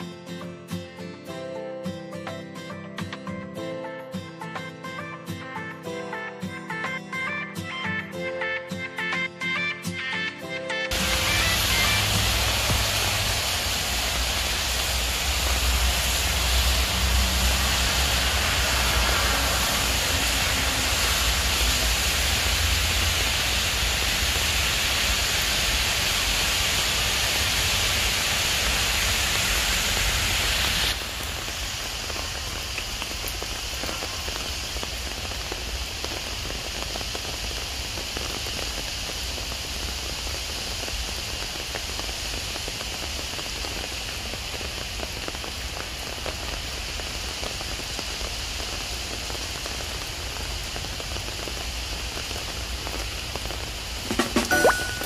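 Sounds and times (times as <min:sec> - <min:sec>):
rain on trees and ground: 0:10.9 - 0:55.0.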